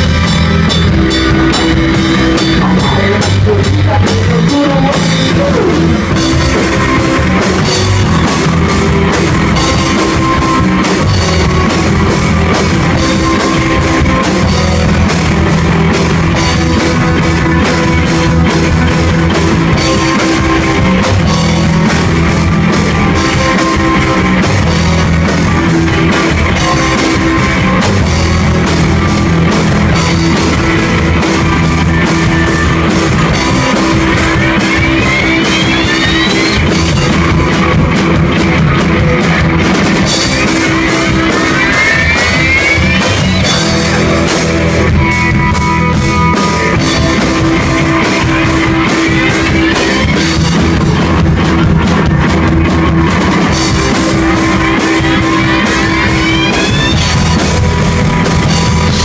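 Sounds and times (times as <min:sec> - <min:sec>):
drum kit beat: 0:00.0 - 0:59.0
rock band playing live: 0:00.0 - 0:59.0.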